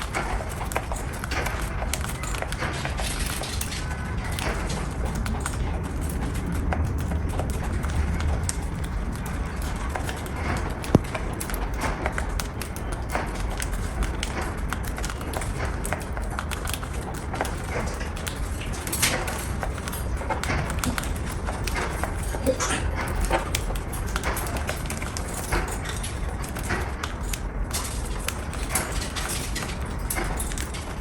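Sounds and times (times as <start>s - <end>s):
light clicks and taps: 0.0s - 31.0s.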